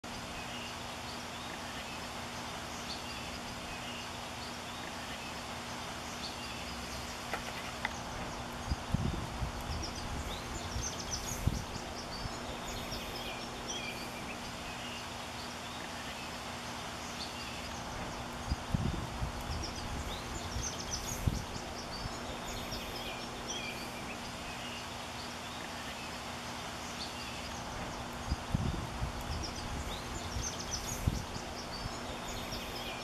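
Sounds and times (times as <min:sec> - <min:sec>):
outdoor background noise: 0:00.0 - 0:33.0
small birds chirping: 0:00.0 - 0:33.0.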